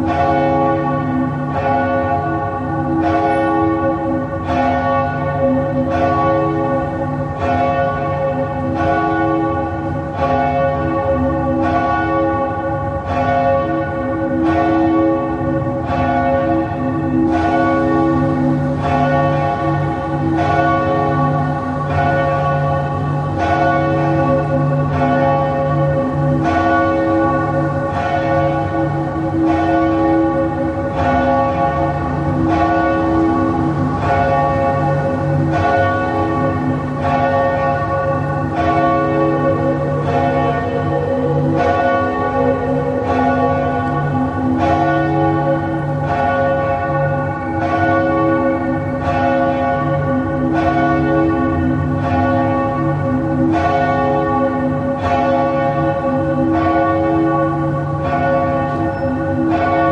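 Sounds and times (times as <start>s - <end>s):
church bell tolling: 0.0s - 59.9s.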